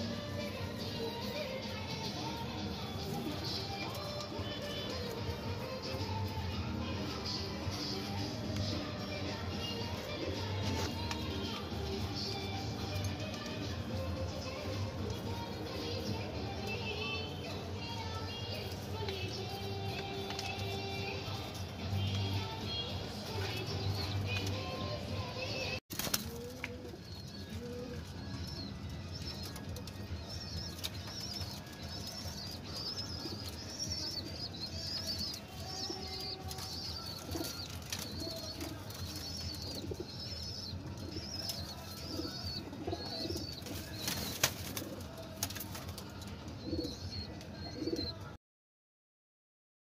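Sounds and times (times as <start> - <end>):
pigeons cooing: 0.0 - 25.0, 26.2 - 48.3.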